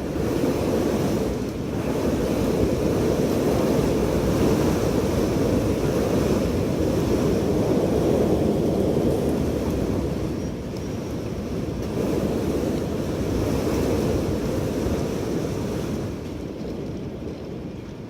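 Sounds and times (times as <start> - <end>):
strong wind blowing: 0.0 - 18.0.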